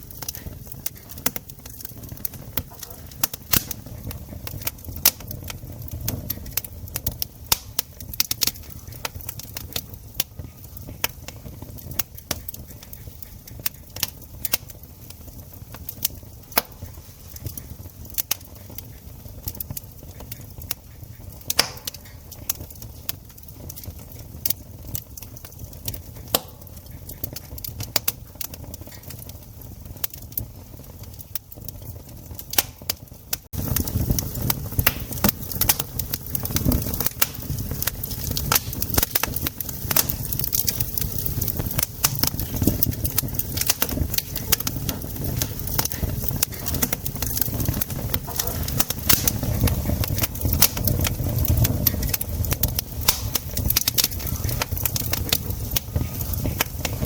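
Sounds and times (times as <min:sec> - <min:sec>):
wood campfire crackling: 0:00.0 - 0:57.0.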